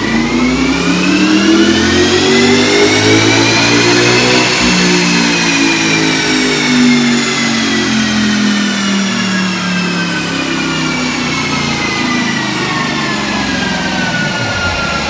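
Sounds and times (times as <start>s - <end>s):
car engine low note: 0.0s - 15.0s
whine of dyno rollers: 0.0s - 15.0s.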